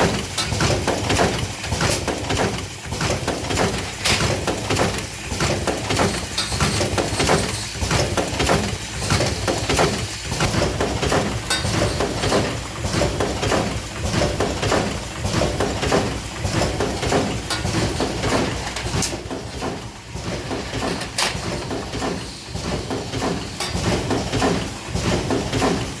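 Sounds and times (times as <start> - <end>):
machine clattering with sharp clicks: 0.0 - 26.0.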